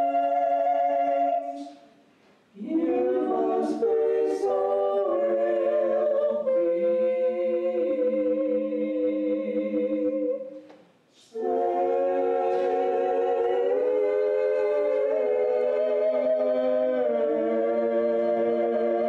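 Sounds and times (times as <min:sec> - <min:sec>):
voices singing in close harmony: 0:00.0 - 0:01.9, 0:02.5 - 0:19.0.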